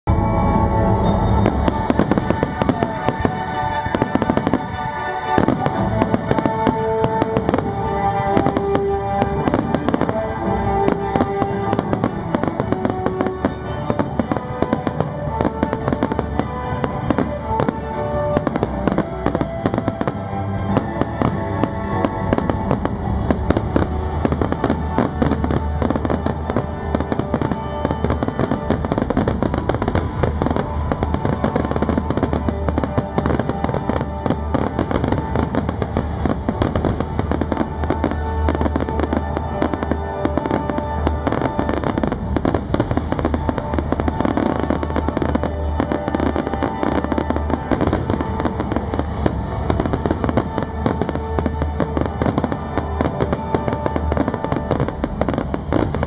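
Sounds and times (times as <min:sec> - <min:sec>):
fireworks exploding: 0:00.1 - 0:56.0.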